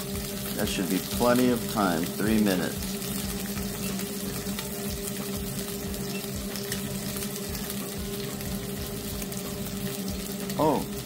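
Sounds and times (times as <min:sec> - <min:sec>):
steak sizzling in oil: 0:00.0 - 0:11.0.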